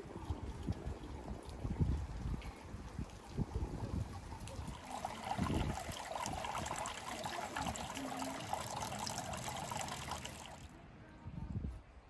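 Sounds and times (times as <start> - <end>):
water trickling into stone basin: 0.0 - 10.7.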